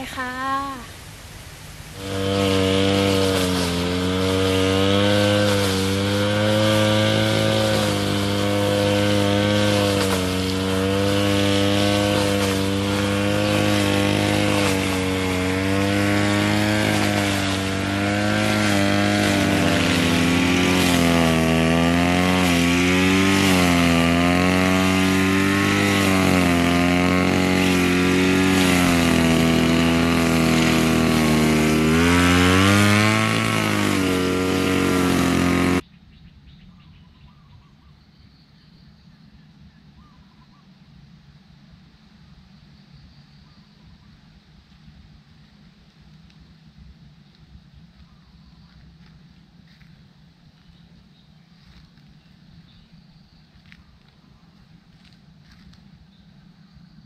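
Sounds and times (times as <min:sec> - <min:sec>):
brush cutter engine cutting grass: 0:00.0 - 0:35.8, 0:44.6 - 0:57.0.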